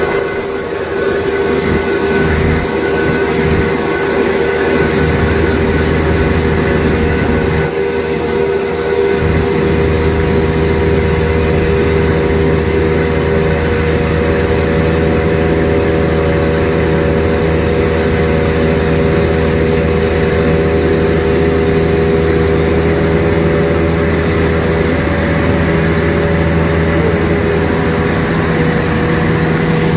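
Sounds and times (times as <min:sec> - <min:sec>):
boat engine droning: 0:00.0 - 0:29.9.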